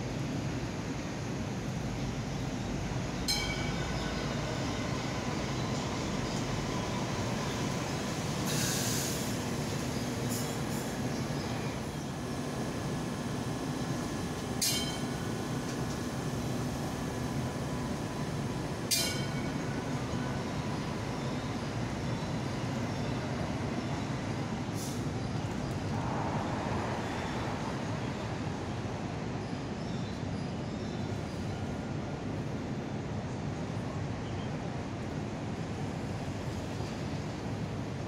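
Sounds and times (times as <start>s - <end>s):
tram rumble: 0.0s - 38.0s.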